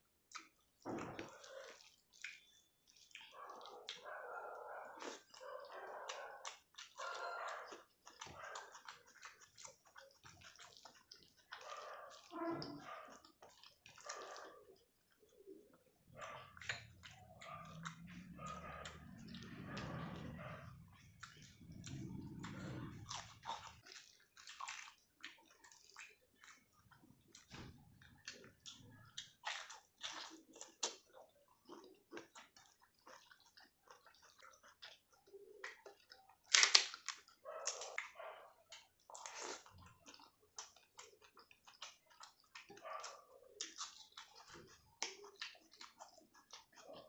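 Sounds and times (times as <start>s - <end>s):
wet chewing mouth clicks: 0.3s - 4.1s, 4.9s - 47.0s.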